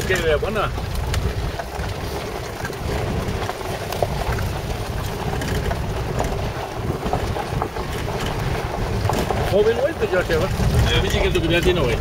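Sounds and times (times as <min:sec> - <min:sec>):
vehicle rumbling on gravel: 0:00.0 - 0:12.0
wind buffeting microphone: 0:00.0 - 0:12.0.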